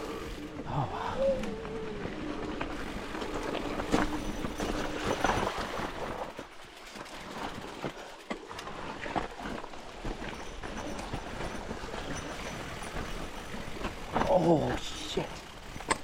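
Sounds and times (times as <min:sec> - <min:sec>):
bike tyres on dirt and rock: 0:00.0 - 0:16.0
bike clicks and knocks: 0:02.5 - 0:16.0.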